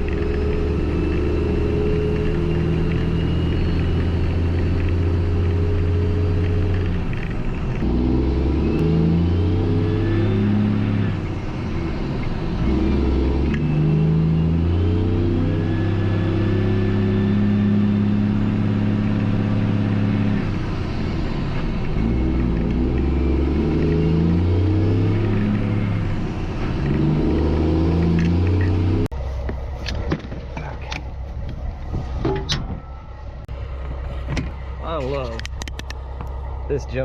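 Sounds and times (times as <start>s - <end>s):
truck diesel engine shifting gears: 0.0s - 37.0s.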